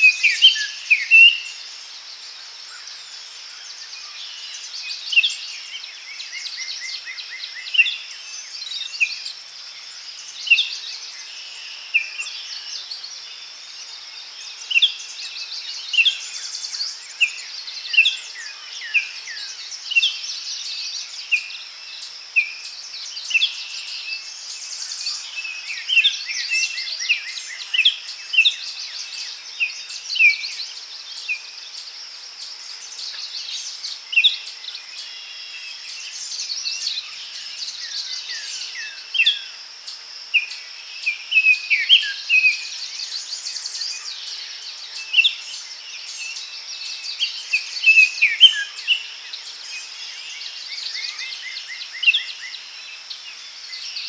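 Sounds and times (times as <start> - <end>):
high insect drone: 0.0 - 54.0
small birds chirping: 0.0 - 54.0.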